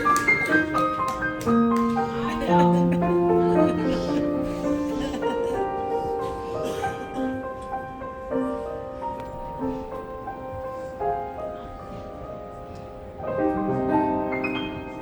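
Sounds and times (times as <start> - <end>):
slow piano chords and notes: 0.0 - 15.0.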